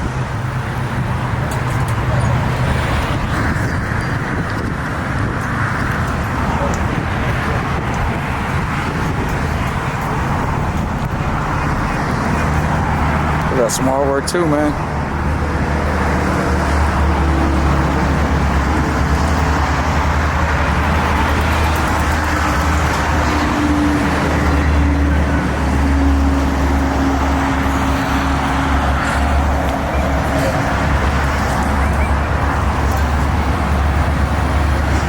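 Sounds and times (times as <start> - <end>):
outdoor background noise: 0.0 - 35.0
vehicle engine rumbling: 0.0 - 35.0.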